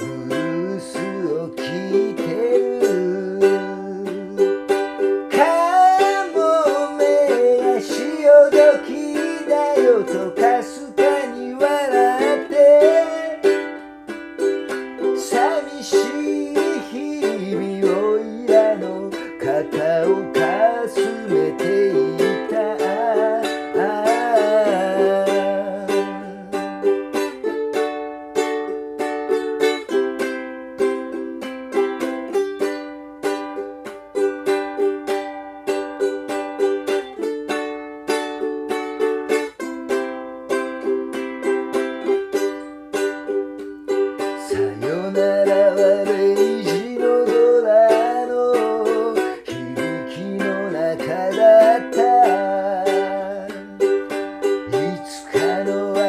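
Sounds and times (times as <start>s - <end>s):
person singing: 0.0s - 30.1s, 40.5s - 56.0s
ukulele strumming chords: 0.0s - 56.0s.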